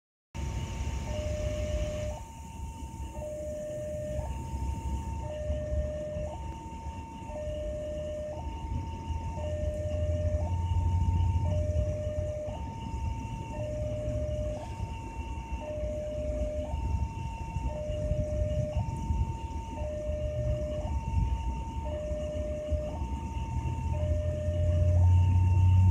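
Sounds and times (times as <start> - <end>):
train rumbling past: 0.4 - 25.9
two-tone electronic warning signal: 0.4 - 25.9.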